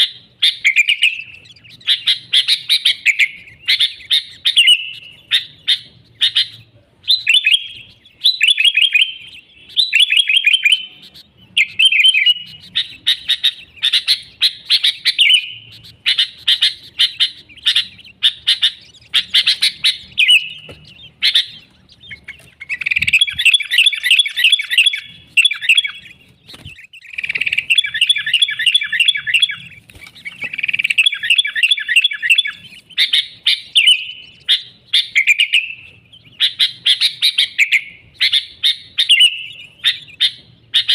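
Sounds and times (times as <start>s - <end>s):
bulbul singing chattering notes: 0.0s - 40.9s.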